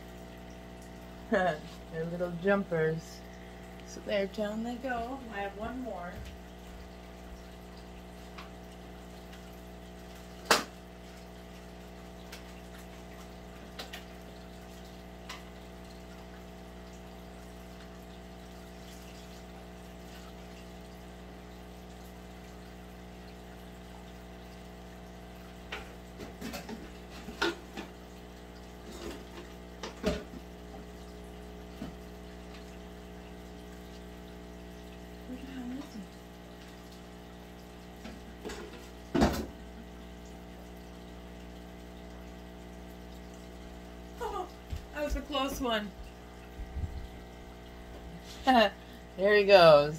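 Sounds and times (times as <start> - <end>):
aquarium pump humming: 0.0 - 49.9.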